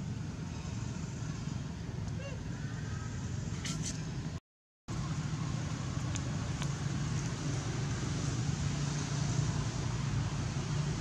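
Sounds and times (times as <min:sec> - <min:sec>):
outdoor background rumble and hiss: 0:00.0 - 0:11.0.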